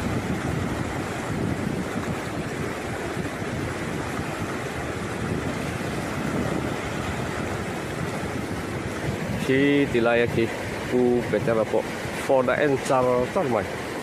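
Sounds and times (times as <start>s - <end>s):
floodwater rushing: 0.0s - 14.0s
wind buffeting microphone: 0.0s - 14.0s.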